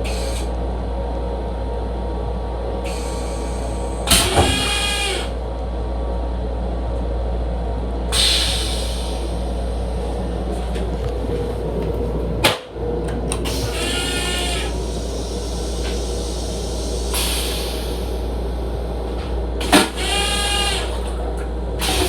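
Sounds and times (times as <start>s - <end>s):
railcar rumble: 0.0s - 22.0s.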